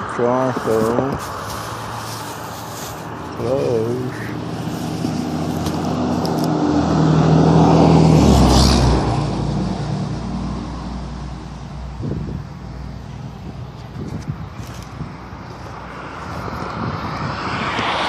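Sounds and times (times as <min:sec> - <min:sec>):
car passing by: 0:00.0 - 0:12.2, 0:15.6 - 0:18.0.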